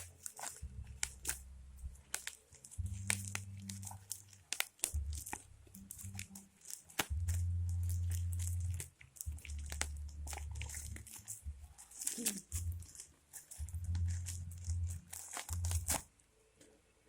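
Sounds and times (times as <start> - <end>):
plastic packaging crackling: 0.0 - 16.2.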